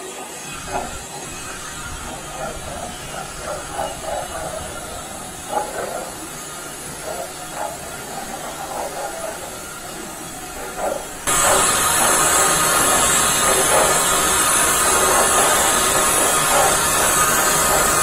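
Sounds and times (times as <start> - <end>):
popcorn machine hissing: 0.0 - 18.0.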